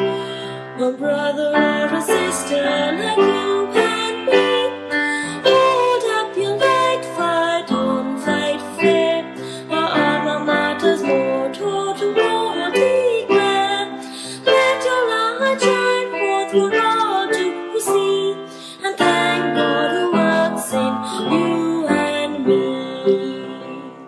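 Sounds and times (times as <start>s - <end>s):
instrumental melody over chords: 0.0s - 24.0s.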